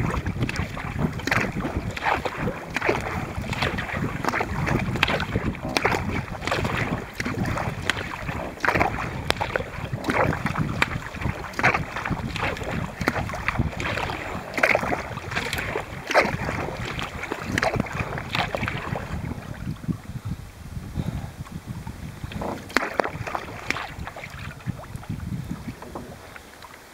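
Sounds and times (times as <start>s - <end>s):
paddle splashes: 0.0s - 26.9s
water rushing along a hull: 0.0s - 26.9s
wind on microphone: 0.0s - 26.9s.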